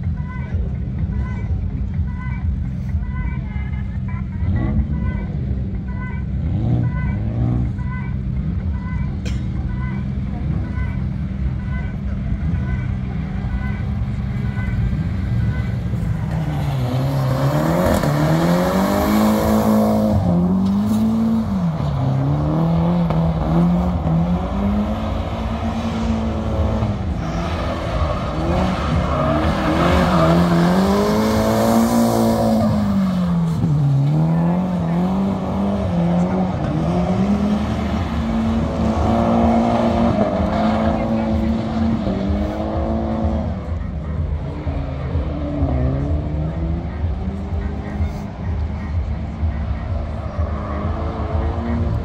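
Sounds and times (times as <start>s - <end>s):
car engine revving: 3.9s - 52.0s.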